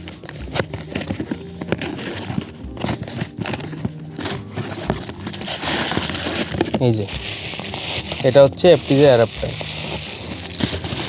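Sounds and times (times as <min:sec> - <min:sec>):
cardboard box clicks and crinkles: 0:00.0 - 0:11.0
paper rustling: 0:00.0 - 0:11.0
soft background music: 0:00.0 - 0:11.0.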